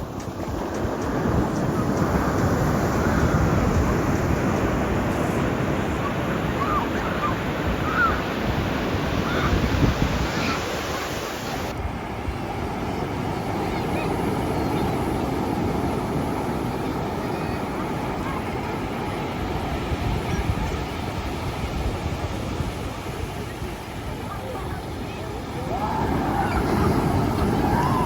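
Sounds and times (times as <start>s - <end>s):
ocean surf on beach: 0.0s - 28.0s
wind buffeting microphone: 0.0s - 28.0s.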